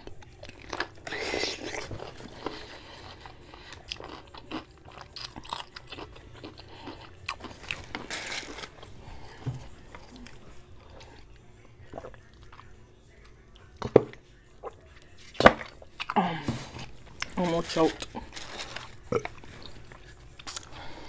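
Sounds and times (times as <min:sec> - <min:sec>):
chewing with small crunches: 0:00.0 - 0:21.0.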